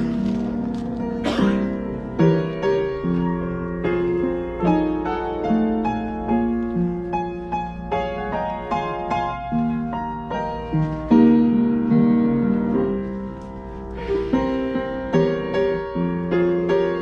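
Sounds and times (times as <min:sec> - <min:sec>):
soft piano music on keyboard: 0:00.0 - 0:17.0.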